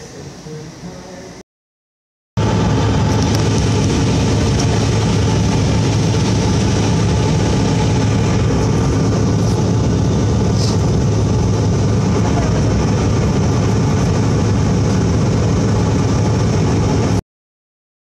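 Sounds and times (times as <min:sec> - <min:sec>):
jet airliner cabin drone: 0:02.4 - 0:17.2.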